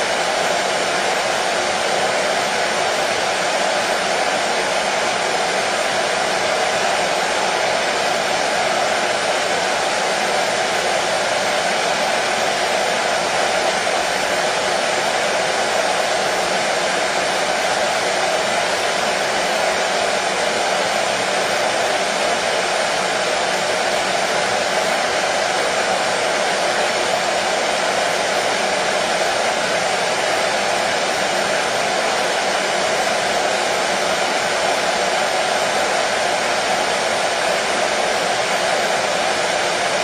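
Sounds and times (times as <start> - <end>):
hair dryer running: 0.0 - 40.0.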